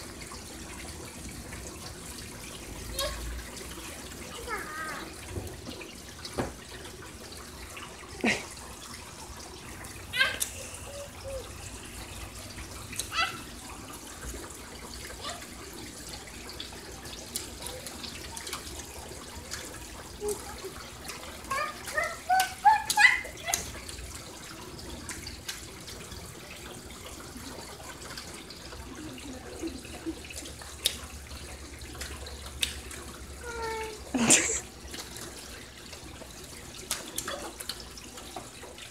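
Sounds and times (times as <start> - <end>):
rainwater trickling from downspout: 0.0 - 38.9.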